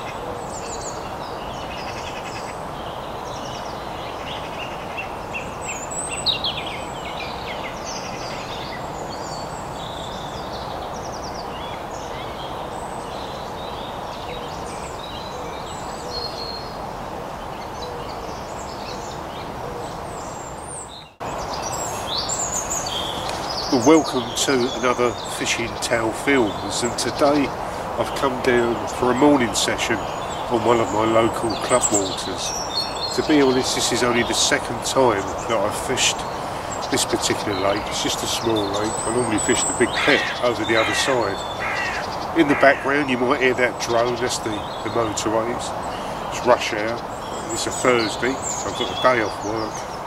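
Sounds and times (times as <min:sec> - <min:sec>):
distant motorway traffic: 0:00.0 - 0:50.0
songbirds singing and calling: 0:00.0 - 0:50.0.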